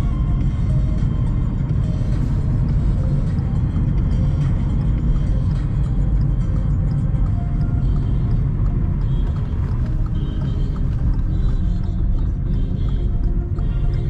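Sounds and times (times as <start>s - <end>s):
car engine and road rumble: 0.0s - 14.0s
music playing: 0.0s - 14.0s.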